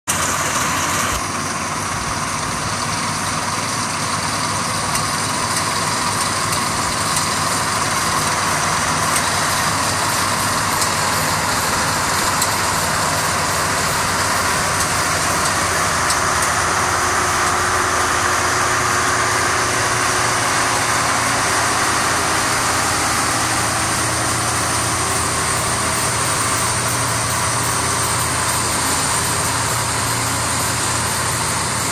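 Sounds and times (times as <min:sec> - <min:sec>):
combine harvester running: 0:00.1 - 0:31.9.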